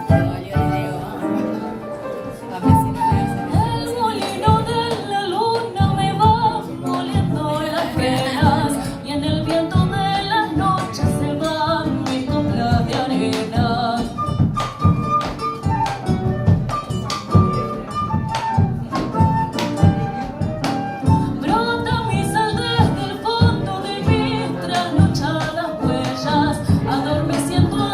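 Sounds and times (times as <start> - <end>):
latin ensemble music: 0.0 - 27.9.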